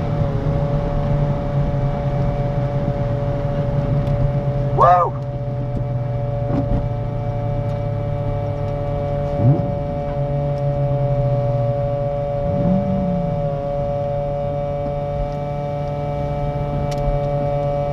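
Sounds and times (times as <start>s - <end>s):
car engine running: 0.0s - 17.9s
steady whine: 0.0s - 17.9s.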